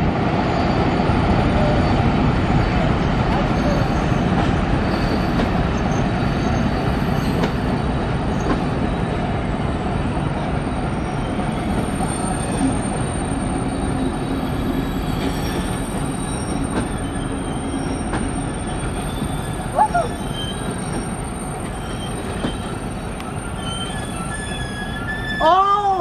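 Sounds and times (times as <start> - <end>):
train coaches rumbling: 0.0 - 26.0
high wheel squeal: 0.5 - 8.6, 10.8 - 26.0.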